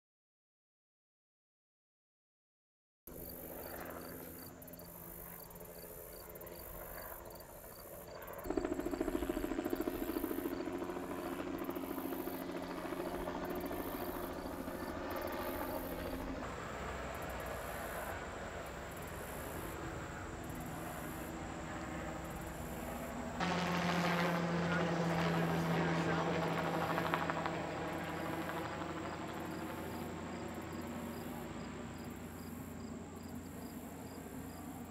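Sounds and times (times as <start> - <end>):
insects chirring: 3.2 - 23.4, 26.4 - 34.9
airship propeller engines droning: 4.2 - 34.9.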